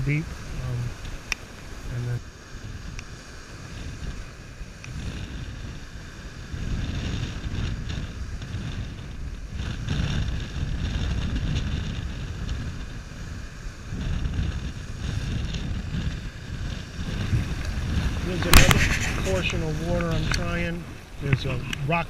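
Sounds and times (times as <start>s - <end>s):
surf breaking over rocks: 0.0s - 22.0s
wind rumbling on microphone: 0.0s - 22.0s.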